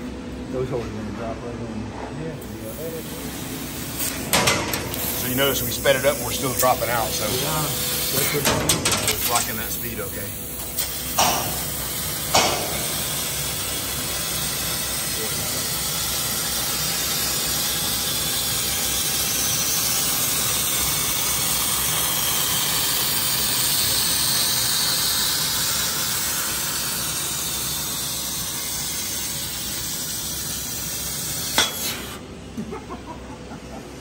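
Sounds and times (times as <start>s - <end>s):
loud hiss of assist gas: 2.7s - 32.2s.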